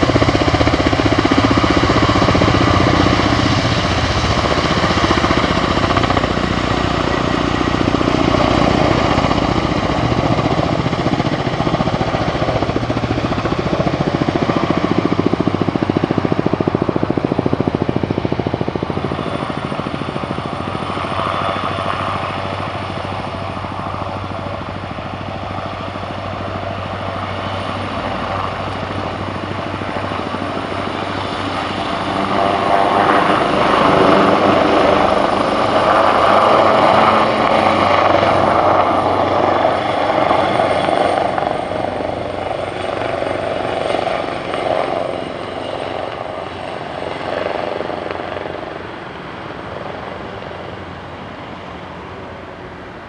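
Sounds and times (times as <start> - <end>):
helicopter flying past: 0.0 - 53.0.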